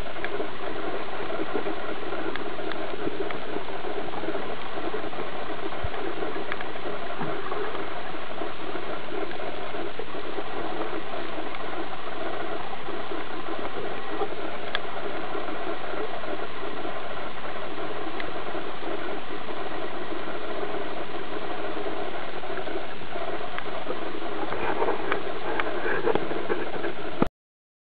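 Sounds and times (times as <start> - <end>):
faint underwater clicks: 0.0 - 27.3.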